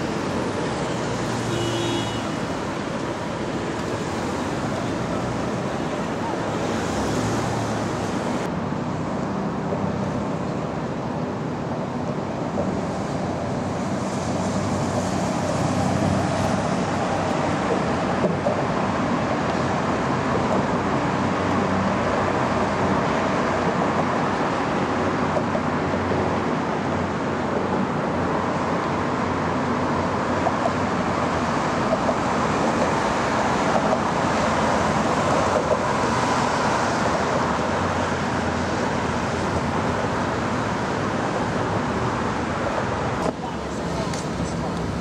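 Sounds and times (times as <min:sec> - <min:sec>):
cars passing on highway: 0:00.0 - 0:45.0.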